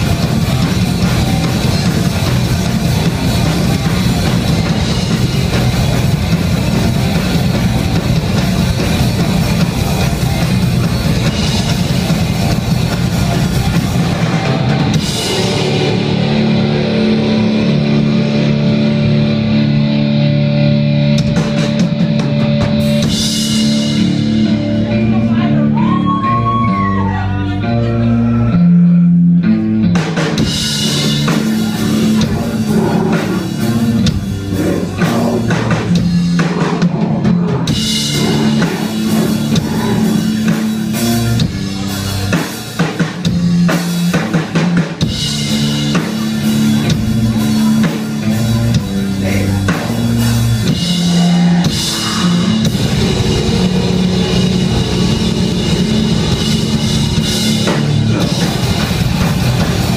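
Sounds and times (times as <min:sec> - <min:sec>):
drum kit with bass drum: 0:00.0 - 0:25.1, 0:29.9 - 0:59.9
bass guitar riffing: 0:00.0 - 0:59.9
distorted electric guitars: 0:00.0 - 0:59.9.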